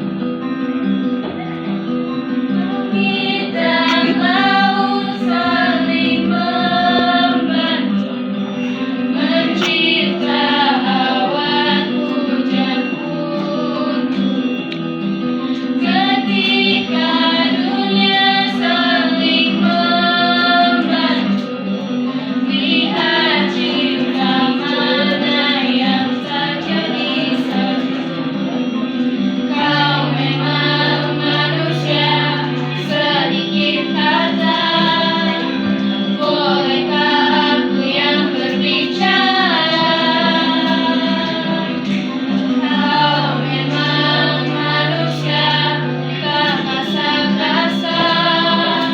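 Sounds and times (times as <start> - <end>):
instrumental backing: 0.0 - 48.9
woman singing: 2.6 - 8.1, 9.1 - 14.2, 15.8 - 21.4, 22.4 - 28.2, 29.5 - 35.6, 36.2 - 48.9.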